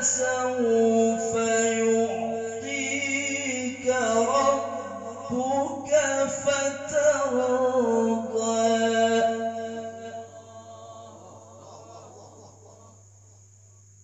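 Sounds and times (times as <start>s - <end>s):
man chanting melodically: 0.0s - 13.2s.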